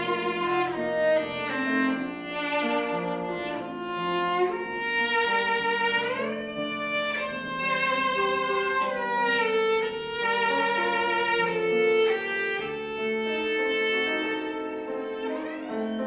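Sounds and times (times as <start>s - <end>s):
cello and bowed strings: 0.0s - 16.0s
violin playing sustained notes: 0.0s - 16.0s.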